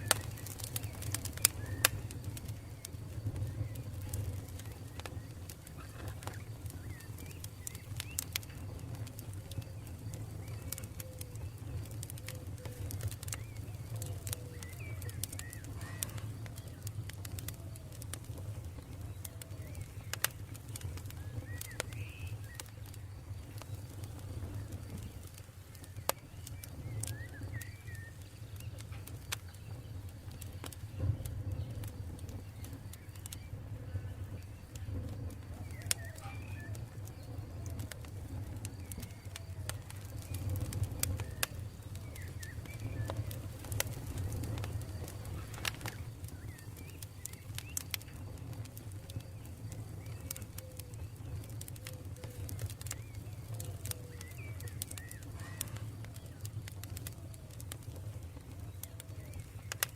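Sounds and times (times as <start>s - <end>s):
birds calling: 0.0s - 59.9s
campfire crackling and popping: 0.0s - 59.9s.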